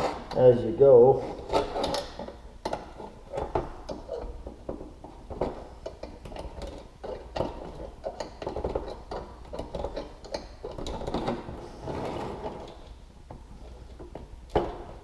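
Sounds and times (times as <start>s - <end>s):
hand tools metallic clicks and scrapes: 0.0s - 12.9s.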